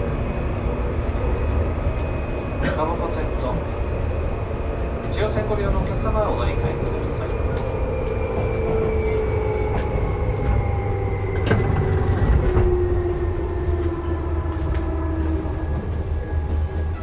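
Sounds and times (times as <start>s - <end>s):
rail clacks: 0.0s - 17.0s
train wheels rumbling on rail: 0.0s - 17.0s.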